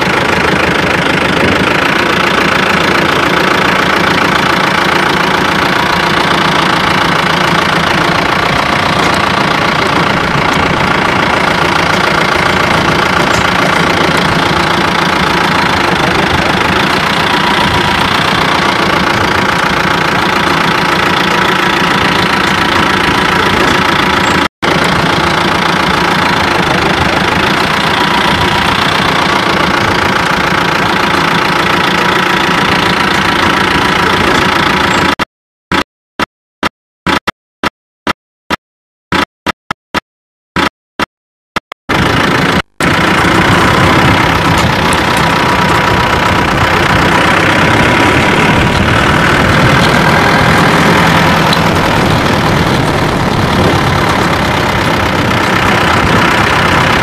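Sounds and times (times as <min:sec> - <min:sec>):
vehicle engine droning: 0:00.0 - 0:35.9, 0:41.9 - 0:57.0.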